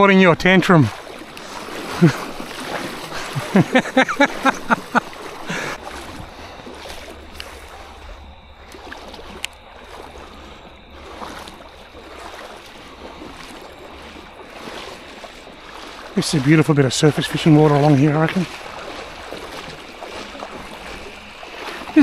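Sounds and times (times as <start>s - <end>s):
legs wading and splashing: 0.0s - 22.0s.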